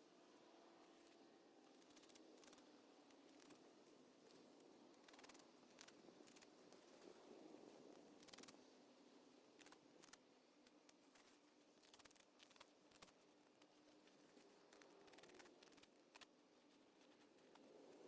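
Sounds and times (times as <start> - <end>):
faint clicks and crackles: 0.3 - 18.0.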